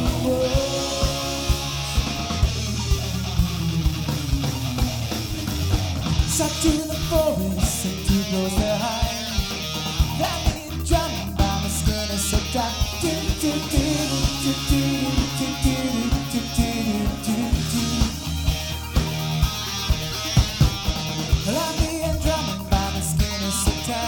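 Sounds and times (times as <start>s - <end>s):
bass guitar: 0.0s - 24.0s
drum beat: 0.0s - 24.0s
lead electric guitar: 0.0s - 24.0s.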